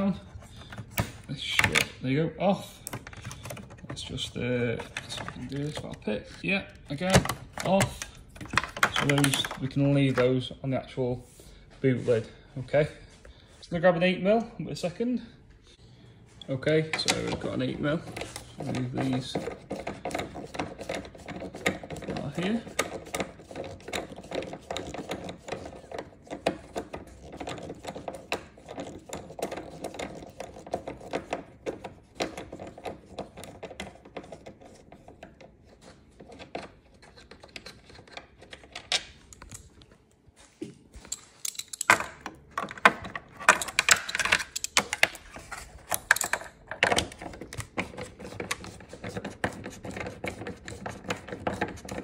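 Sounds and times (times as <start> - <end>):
tools clattering and knocking: 2.8 - 10.4, 16.8 - 39.8, 40.9 - 52.0.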